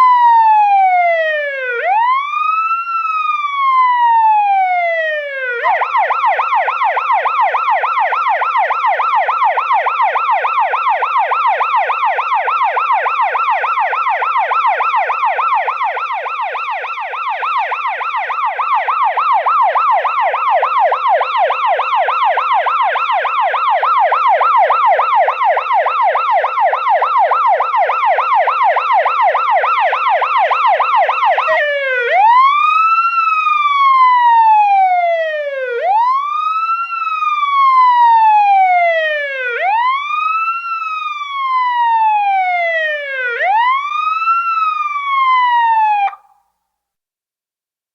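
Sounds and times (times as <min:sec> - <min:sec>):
police siren yelp and wail: 0:00.0 - 0:46.4.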